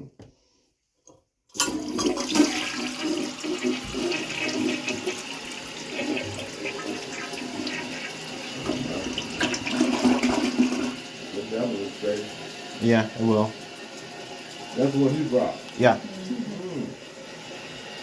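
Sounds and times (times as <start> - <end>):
toilet flushing: 1.5 - 18.0.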